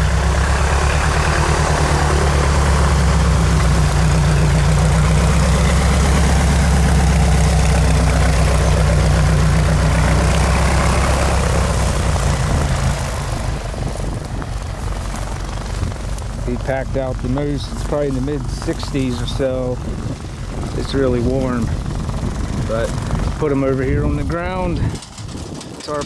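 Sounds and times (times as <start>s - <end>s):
small plane engine droning: 0.0s - 25.8s.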